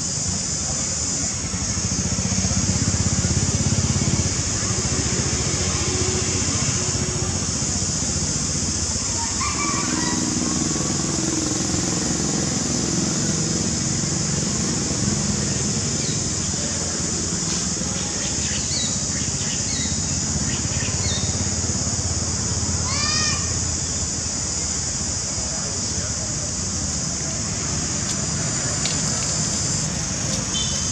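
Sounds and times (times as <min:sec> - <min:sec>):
high-pitched hiss: 0:00.0 - 0:30.9
rumble of traffic: 0:00.0 - 0:30.9.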